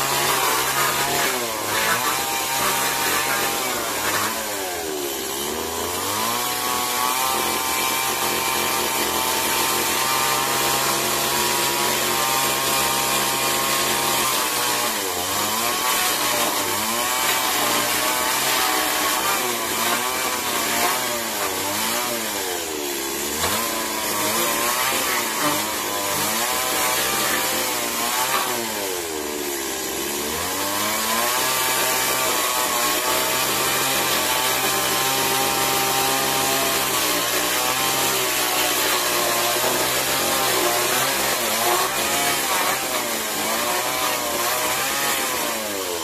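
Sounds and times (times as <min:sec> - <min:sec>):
small chainsaw cutting wood: 0:00.0 - 0:46.0.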